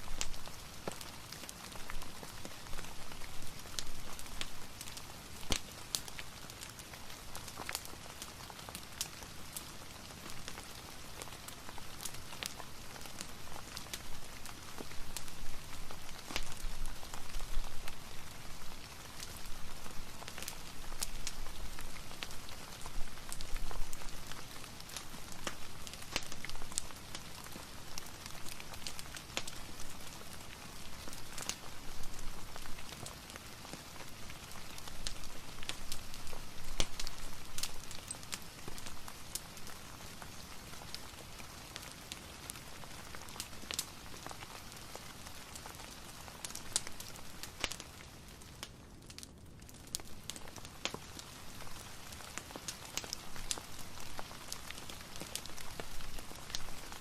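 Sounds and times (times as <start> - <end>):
steady soft rain: 0.0 - 57.0
wood fire crackling: 0.0 - 57.0.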